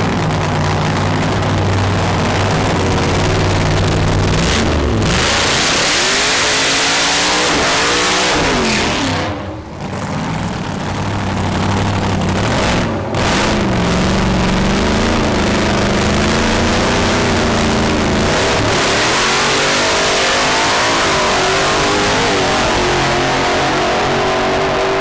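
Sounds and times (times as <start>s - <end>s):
drag racing car engine revving: 0.0s - 25.0s.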